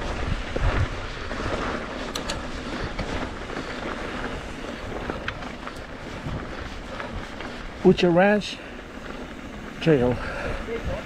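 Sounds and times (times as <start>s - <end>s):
bike clicks and rattles: 0.0s - 11.0s
bike tyres rolling over dirt: 0.0s - 11.0s
wind buffeting microphone: 0.0s - 11.0s.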